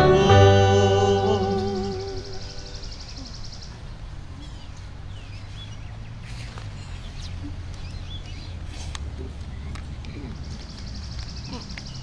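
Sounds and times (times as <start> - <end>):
low outdoor rumble: 0.0 - 11.4
birds chirping: 0.0 - 12.0.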